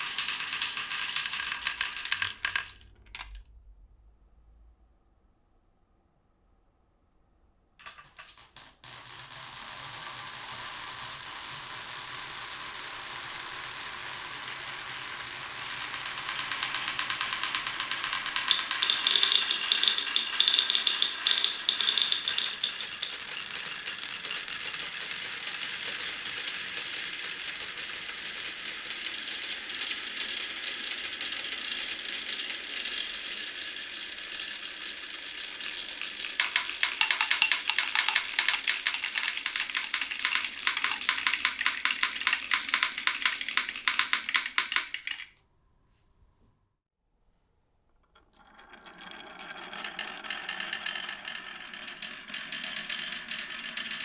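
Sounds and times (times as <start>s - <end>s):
marbles rolling on track: 0.0s - 3.4s, 7.8s - 45.4s, 47.9s - 54.0s
rapid clicks of balls: 0.0s - 3.4s, 7.8s - 45.4s, 47.9s - 54.0s.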